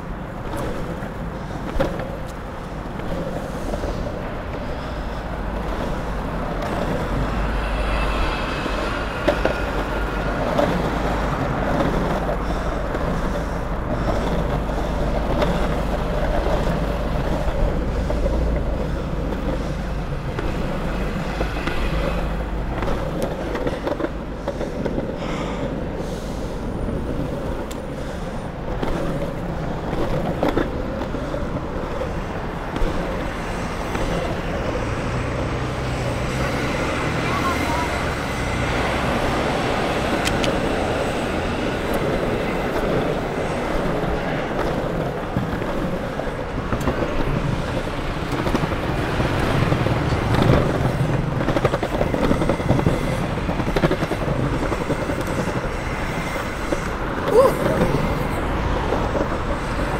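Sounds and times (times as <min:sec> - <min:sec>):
longboard clacks over bumps: 0:00.0 - 0:07.5, 0:09.2 - 0:35.0, 0:38.2 - 0:59.9
longboard wheels rolling on asphalt: 0:00.0 - 0:59.9
passing city traffic: 0:00.0 - 0:59.9.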